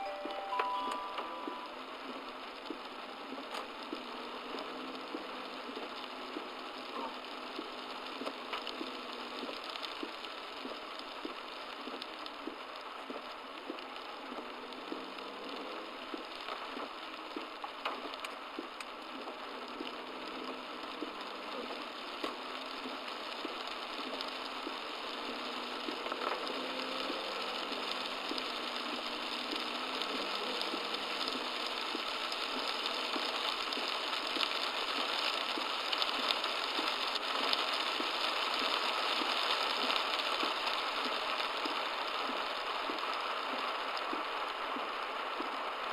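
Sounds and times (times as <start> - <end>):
heavy rain pelting a car: 0.0 - 45.9.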